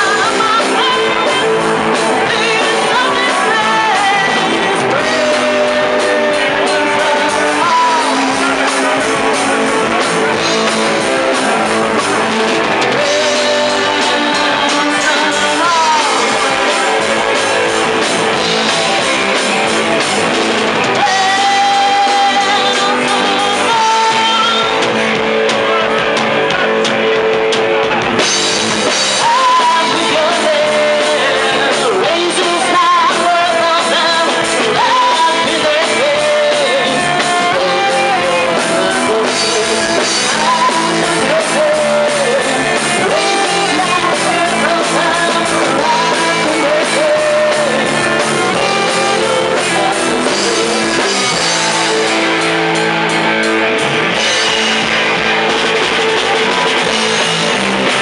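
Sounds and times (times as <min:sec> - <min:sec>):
live rock band playing: 0:00.0 - 0:58.0
person singing: 0:00.0 - 0:58.0.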